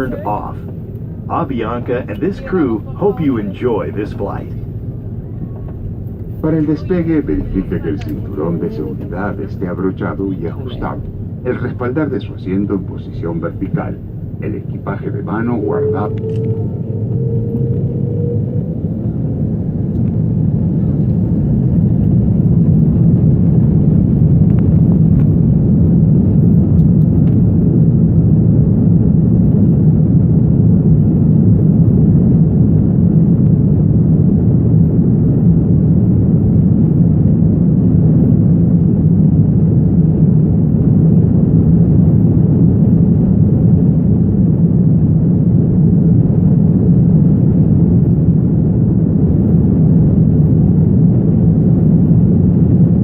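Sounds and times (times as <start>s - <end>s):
jet airliner cabin rumble: 0.0s - 53.0s.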